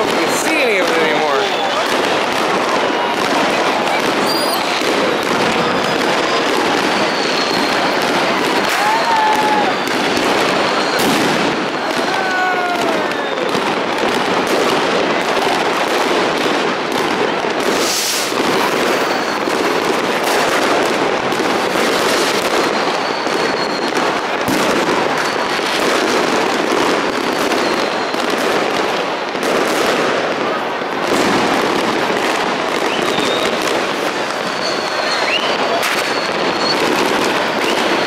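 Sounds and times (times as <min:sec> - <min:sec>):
fireworks and firecrackers banging: 0:00.0 - 0:38.0
whistling fireworks: 0:00.0 - 0:38.0.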